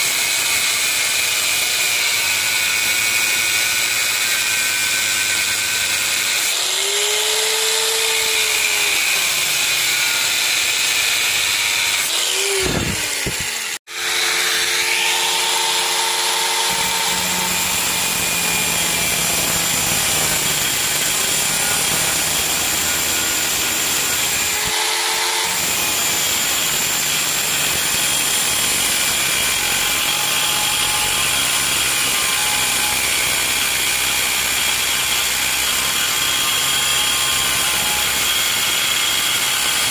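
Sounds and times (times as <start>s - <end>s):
angle grinder cutting steel: 0.0s - 39.9s.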